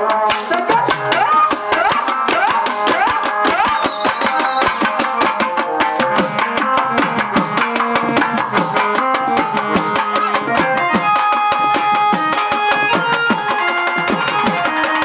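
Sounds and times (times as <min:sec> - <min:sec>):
hand drum: 0:00.0 - 0:15.0
held melodic notes: 0:01.0 - 0:15.0
wooden hand clappers: 0:01.1 - 0:15.0.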